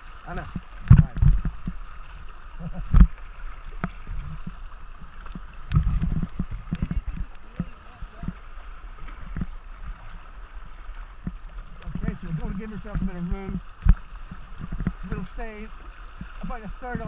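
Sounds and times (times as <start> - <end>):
paddle strokes in water: 0.0 - 17.0
water splashing against kayak hull: 0.0 - 17.0.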